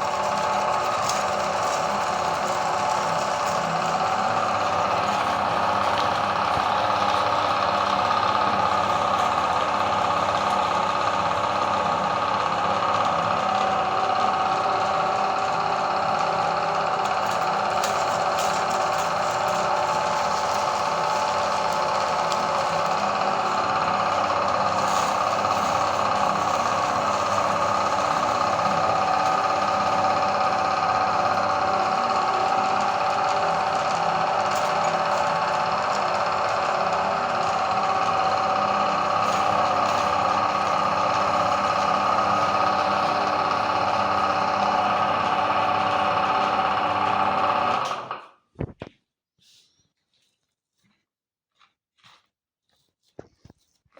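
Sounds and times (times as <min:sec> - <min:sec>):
electric meat grinder running: 0:00.0 - 0:48.3.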